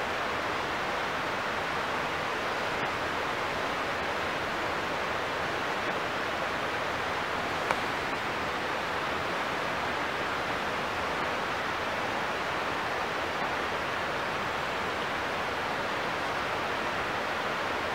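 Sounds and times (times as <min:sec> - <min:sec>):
river rushing: 0:00.0 - 0:17.9.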